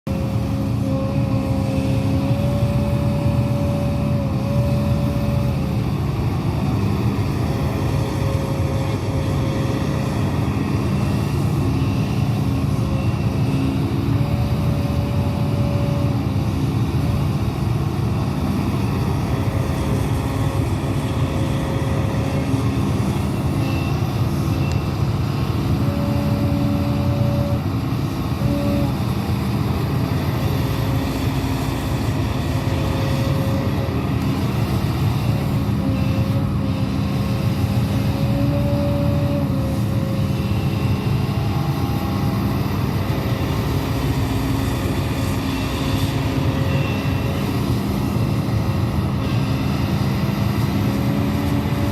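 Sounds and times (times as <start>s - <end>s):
excavator running: 0.0s - 51.9s
whining tones: 0.0s - 51.9s.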